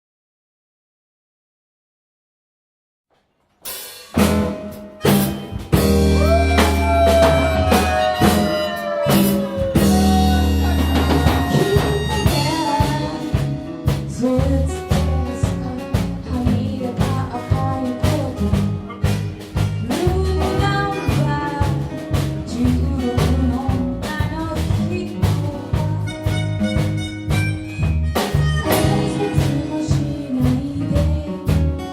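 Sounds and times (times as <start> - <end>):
drum kit: 3.5 - 31.9
lead melody with bending notes: 4.0 - 31.9
pulsing bass line: 5.6 - 31.8.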